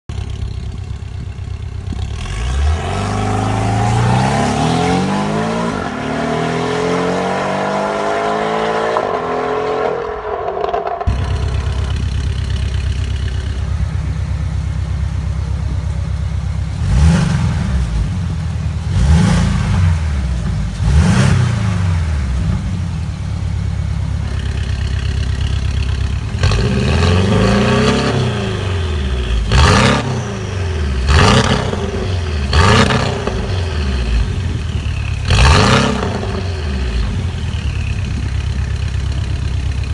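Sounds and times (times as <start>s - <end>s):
car engine idling: 0.0s - 2.8s, 10.0s - 39.9s
car engine revving: 1.2s - 39.9s.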